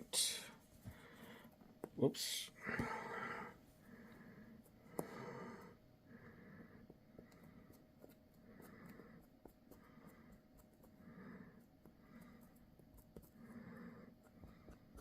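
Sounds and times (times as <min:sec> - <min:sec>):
soft breathing: 0:00.1 - 0:15.0.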